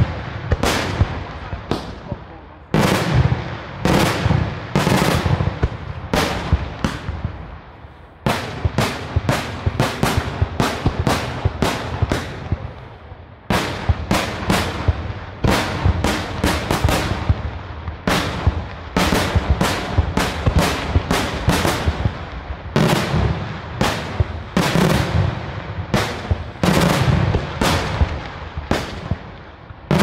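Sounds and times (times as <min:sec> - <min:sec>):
fireworks bursting with echo: 0:00.0 - 0:30.0.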